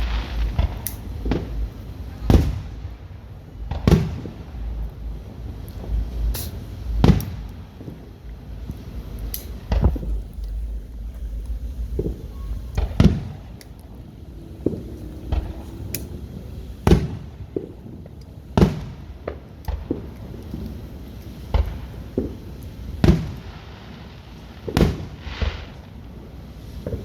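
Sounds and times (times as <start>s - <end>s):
firework pops: 0.0s - 3.0s, 3.6s - 4.9s, 5.6s - 14.0s, 14.6s - 16.2s, 16.8s - 23.5s, 24.4s - 25.9s, 26.8s - 27.0s
fireworks booming: 0.0s - 27.0s.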